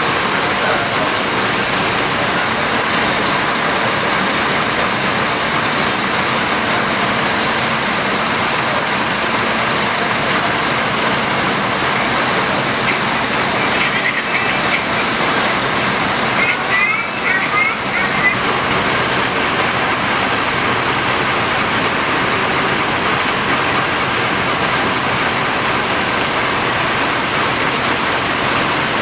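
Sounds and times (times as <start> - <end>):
bus road noise and engine hum: 0.0 - 29.0.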